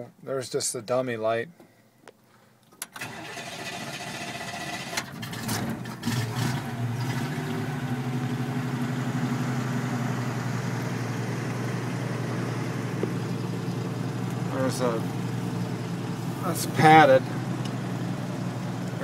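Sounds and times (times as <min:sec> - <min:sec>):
pickup engine starting and idling: 0:02.8 - 0:19.0.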